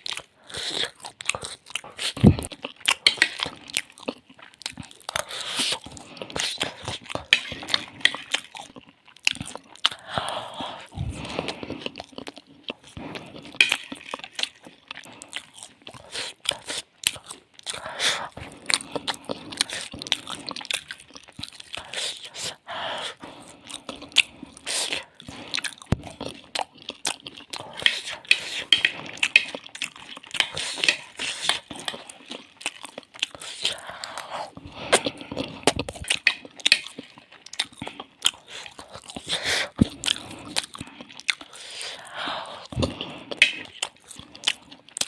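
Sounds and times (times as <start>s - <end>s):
crunchy bites and chewing: 0.0s - 42.0s, 42.6s - 45.0s.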